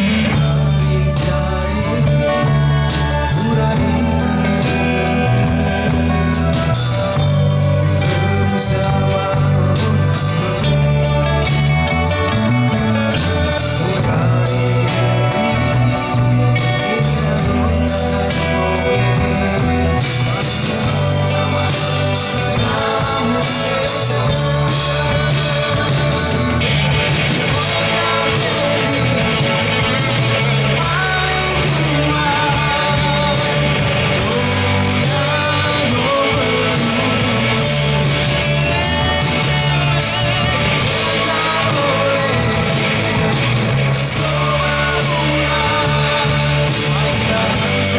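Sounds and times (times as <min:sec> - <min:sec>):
live rock band playing: 0:00.0 - 0:47.9
person singing: 0:00.0 - 0:47.9.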